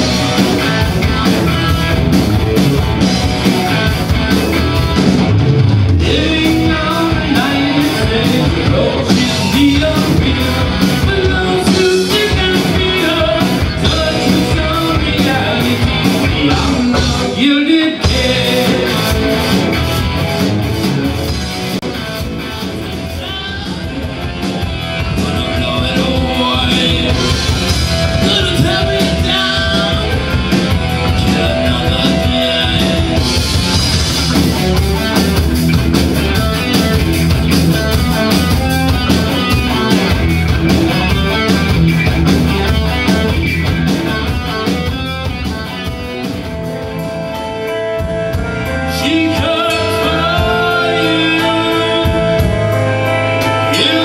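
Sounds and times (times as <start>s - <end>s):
drum kit: 0.0s - 54.0s
electric bass: 0.0s - 54.0s
electric guitar: 0.0s - 54.0s.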